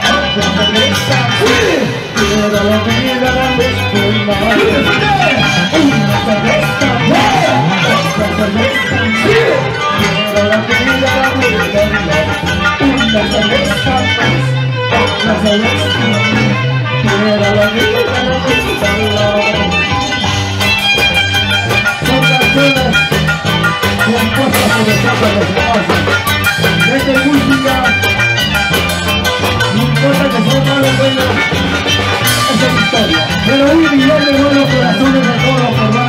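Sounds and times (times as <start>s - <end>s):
bass guitar: 0.0s - 36.0s
live band music: 0.0s - 36.0s.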